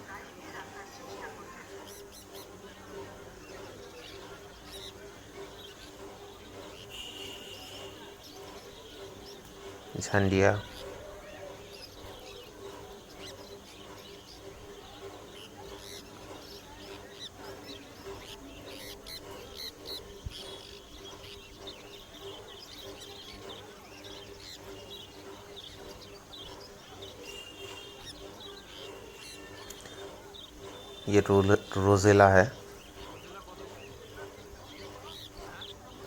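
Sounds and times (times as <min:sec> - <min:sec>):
caged birds chirping: 0:00.0 - 0:36.0
steady low hum: 0:00.0 - 0:36.0.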